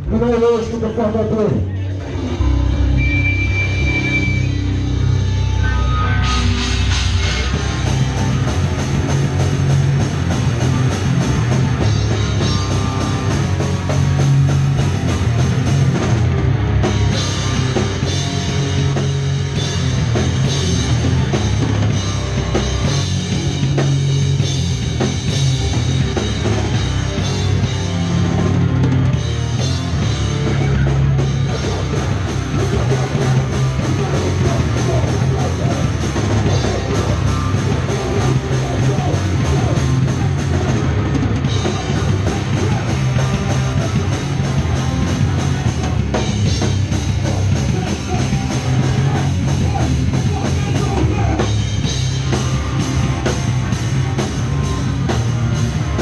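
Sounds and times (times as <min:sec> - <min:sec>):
punk band playing live: 0:00.0 - 0:56.0.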